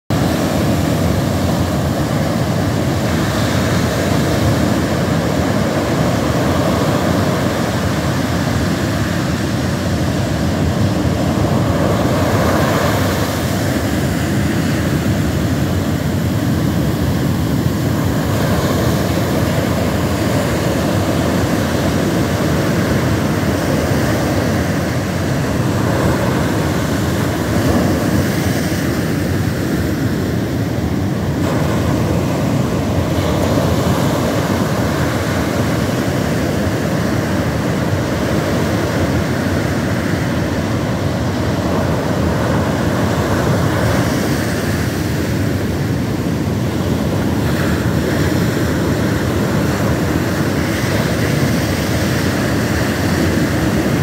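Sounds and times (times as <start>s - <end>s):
ocean waves breaking on beach: 0.1s - 54.0s.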